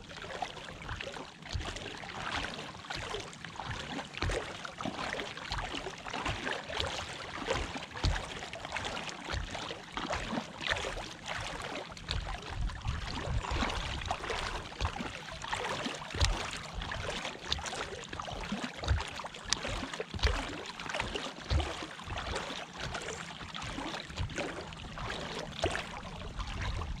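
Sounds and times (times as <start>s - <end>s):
water lapping against boat: 0.0s - 27.0s.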